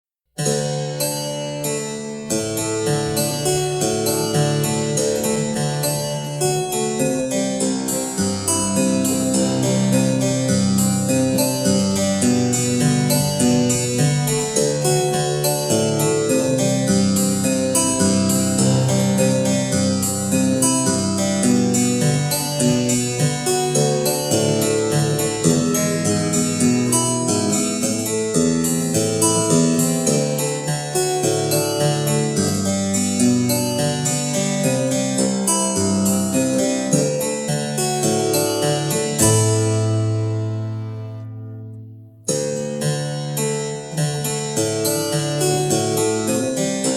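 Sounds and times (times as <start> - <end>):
harpsichord playing: 0.4 - 46.9.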